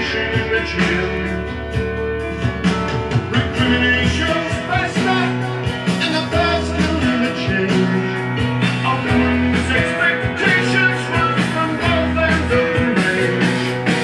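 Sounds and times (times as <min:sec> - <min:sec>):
rock and roll record with singing: 0:00.0 - 0:14.0.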